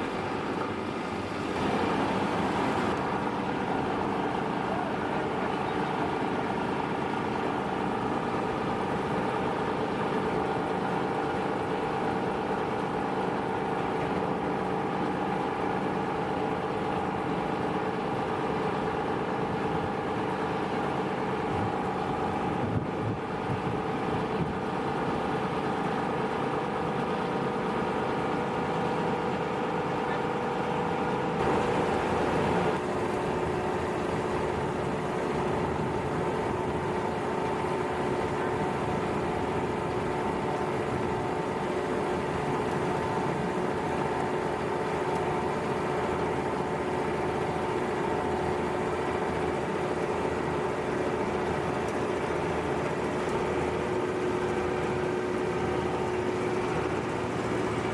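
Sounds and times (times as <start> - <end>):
industrial machinery humming: 0.0 - 57.9.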